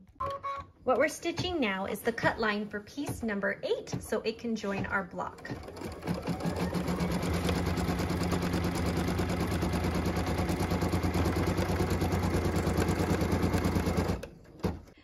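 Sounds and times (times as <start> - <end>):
embroidery machine stitching: 2.9 - 14.9.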